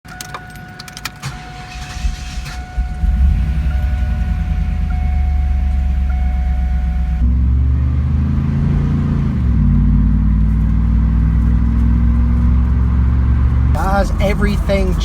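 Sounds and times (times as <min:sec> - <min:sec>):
car engine starting and idling: 0:01.1 - 0:15.0.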